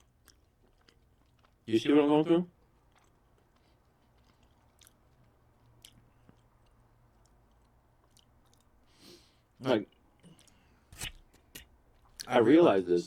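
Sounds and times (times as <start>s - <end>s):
person chewing with mouth closed: 0.0s - 1.6s, 2.6s - 12.3s.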